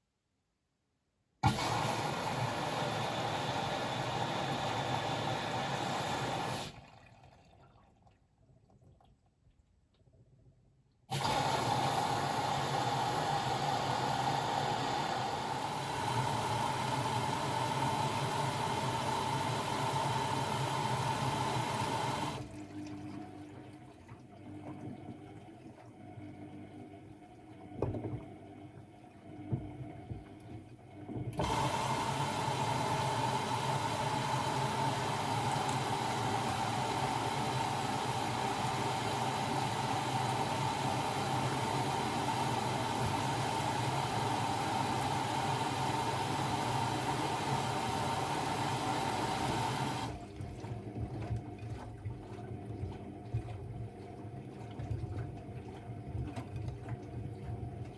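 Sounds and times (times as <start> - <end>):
washing machine filling with water: 1.4 - 9.2, 11.1 - 57.9.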